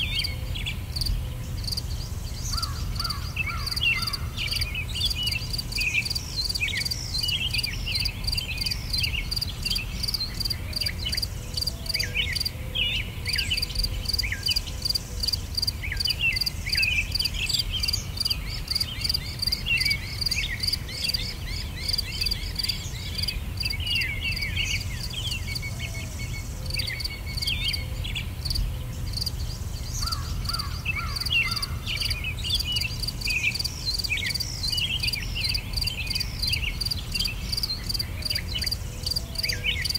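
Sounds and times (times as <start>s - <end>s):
bird chirps: 0.0s - 39.9s.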